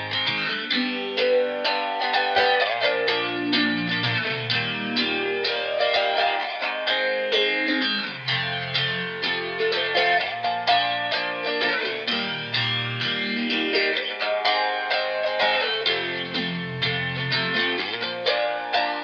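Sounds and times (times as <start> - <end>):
psychedelic electric guitar: 0.0 - 19.0.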